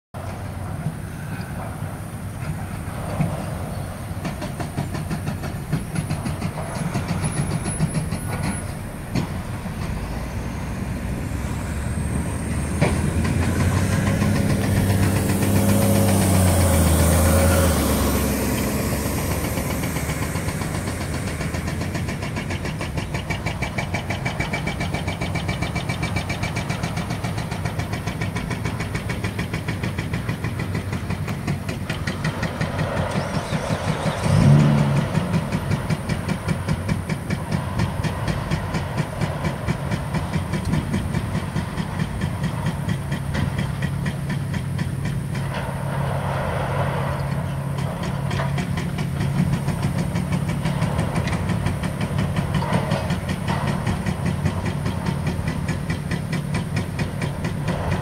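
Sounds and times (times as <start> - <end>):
excavator diesel engines running: 0.2 - 58.0
louder engine passing: 6.3 - 27.8, 29.9 - 58.0.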